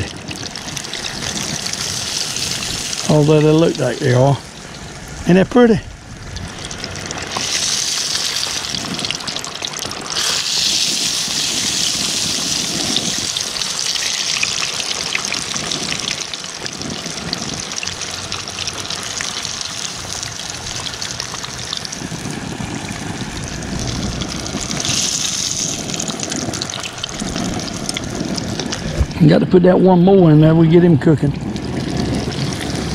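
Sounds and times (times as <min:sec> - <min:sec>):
fish deep-frying in hot grease: 0:00.0 - 0:29.2, 0:31.2 - 0:32.9.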